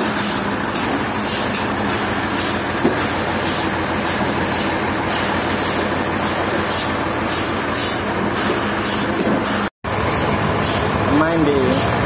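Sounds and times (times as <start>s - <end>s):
sawmill machinery din: 0.0s - 12.0s.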